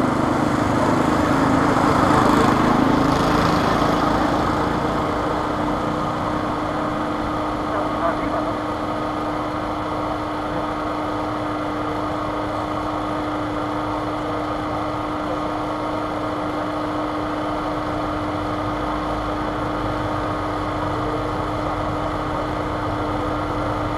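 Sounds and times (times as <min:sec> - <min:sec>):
continuous background noise: 0:00.0 - 0:23.9
steady mechanical hum: 0:00.0 - 0:23.9.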